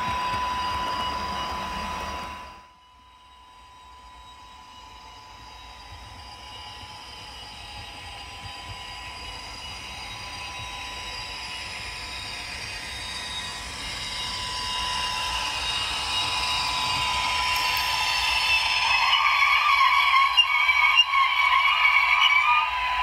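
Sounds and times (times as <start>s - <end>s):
model train running: 0.0s - 23.0s
steady high whine: 0.0s - 23.0s.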